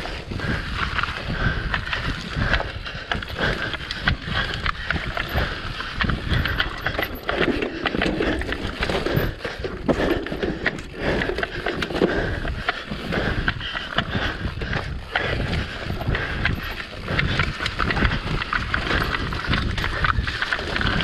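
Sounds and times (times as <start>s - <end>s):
bike clattering over bumps: 0.0s - 21.0s
bike tyres rolling over dirt: 0.0s - 21.0s.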